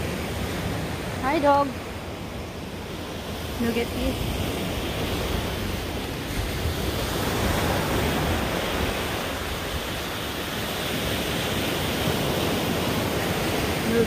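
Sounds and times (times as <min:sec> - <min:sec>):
waves washing onto beach: 0:00.0 - 0:14.0.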